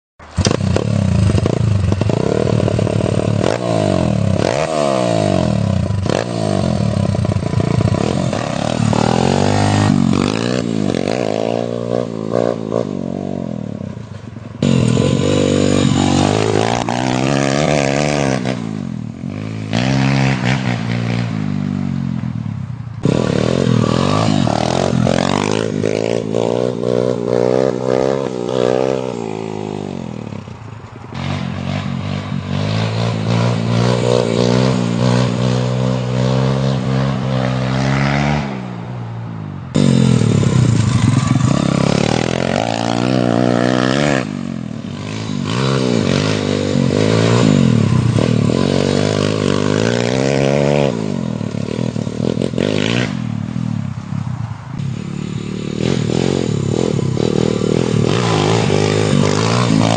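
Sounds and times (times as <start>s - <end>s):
dirt bike engine revving: 0.3s - 14.0s, 14.6s - 30.4s, 31.1s - 38.9s, 39.6s - 53.9s, 54.8s - 59.9s.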